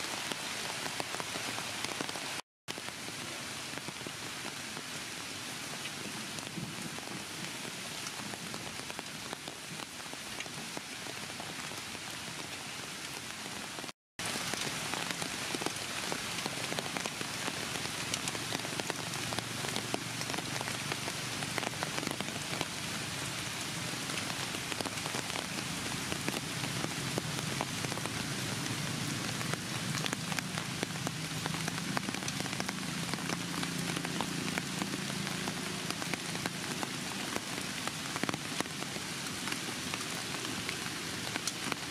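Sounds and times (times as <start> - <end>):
steady rain on ground and leaves: 0.0 - 41.9.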